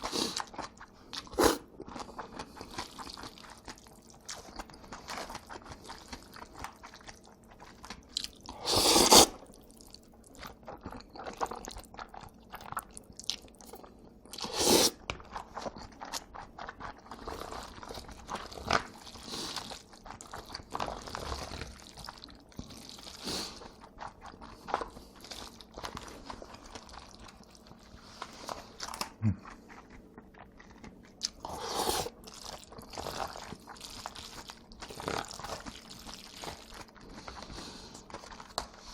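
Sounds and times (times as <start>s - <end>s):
chewing and biting noodles: 0.0s - 38.9s.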